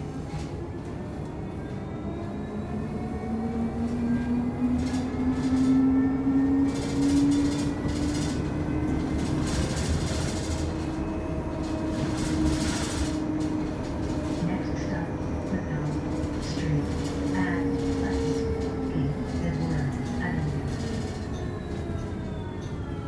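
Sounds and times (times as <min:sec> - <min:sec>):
train interior rumble: 0:00.0 - 0:23.0.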